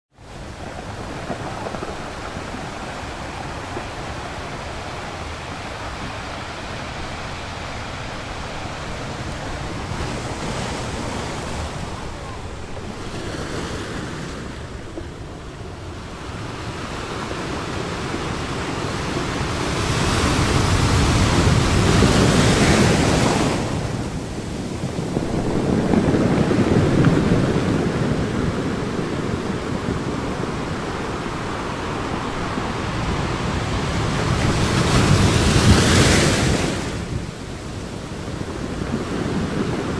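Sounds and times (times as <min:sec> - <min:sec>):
ocean waves breaking: 0:00.1 - 0:39.9.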